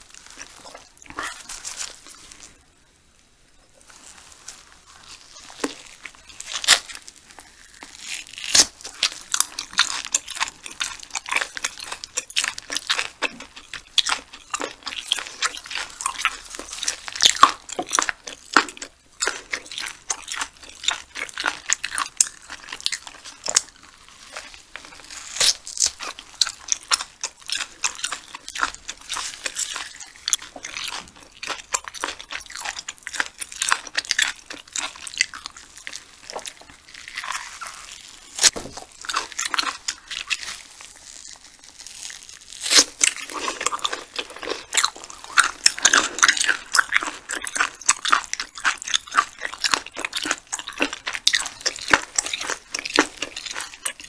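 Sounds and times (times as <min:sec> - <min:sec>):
close biting and chewing: 0:00.2 - 0:02.5, 0:04.9 - 0:54.0.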